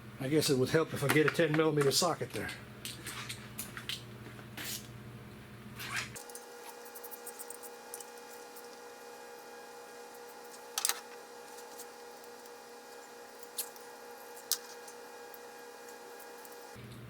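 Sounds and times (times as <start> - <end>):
steady hum: 1.8 - 17.0.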